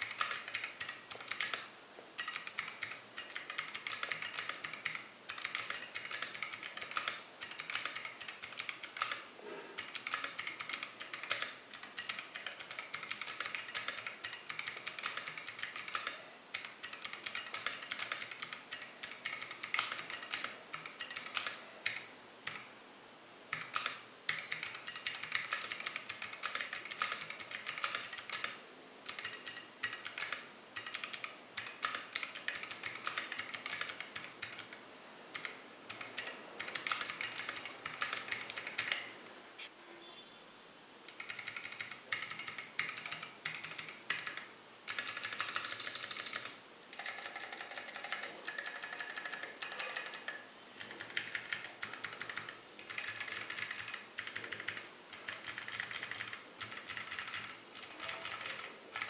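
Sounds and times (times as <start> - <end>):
mechanical keyboard typing: 0.0 - 9.2, 9.8 - 22.7, 23.5 - 39.1, 41.1 - 59.0.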